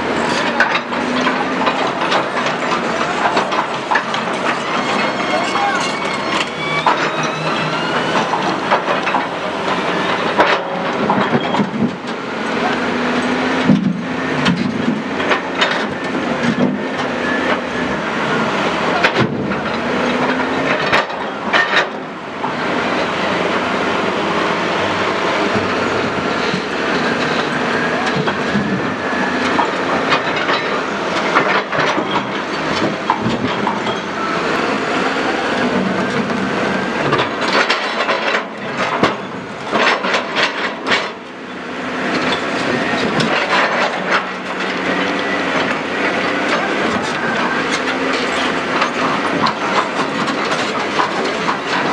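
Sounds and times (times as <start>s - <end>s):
heavy machinery running: 0.0s - 51.9s.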